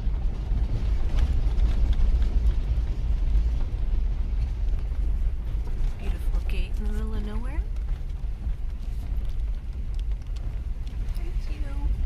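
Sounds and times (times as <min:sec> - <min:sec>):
car driving over rough dirt road: 0:00.0 - 0:12.0.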